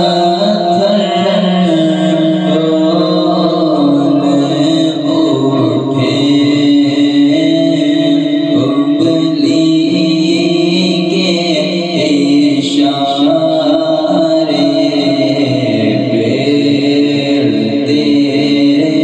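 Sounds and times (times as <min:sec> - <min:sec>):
person chanting slowly: 0:00.0 - 0:19.0.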